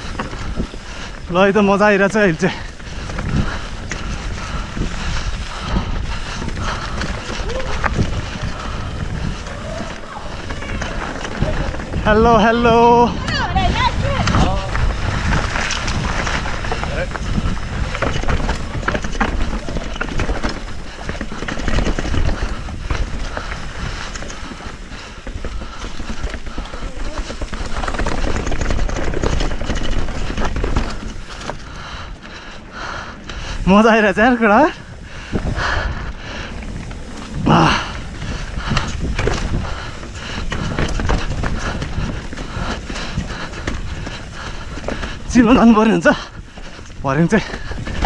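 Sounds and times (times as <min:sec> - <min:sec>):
bike clattering over rocks: 0:00.0 - 0:35.6, 0:36.4 - 0:48.0
wind on microphone: 0:00.0 - 0:48.0.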